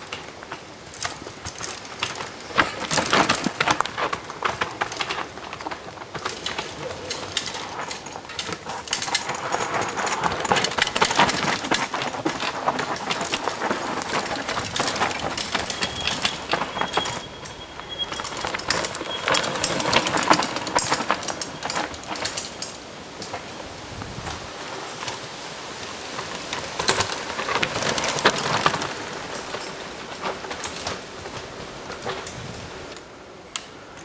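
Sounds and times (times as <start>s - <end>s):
bike tyres crackling on dirt: 0.0s - 34.0s.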